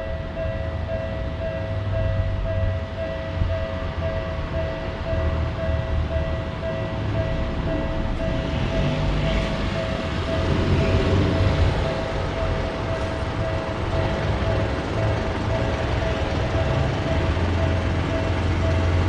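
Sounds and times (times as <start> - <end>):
railroad crossing bell ringing: 0.0 - 19.0
train rumbling on rails: 0.0 - 19.0.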